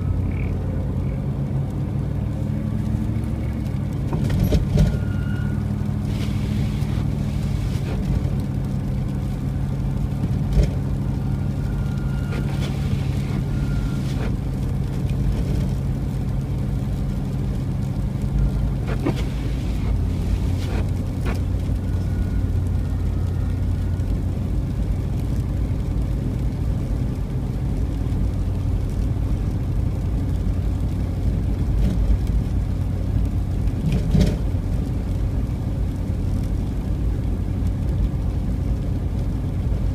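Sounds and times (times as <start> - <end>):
car engine humming: 0.0 - 39.9
tyre and road noise: 0.0 - 39.9.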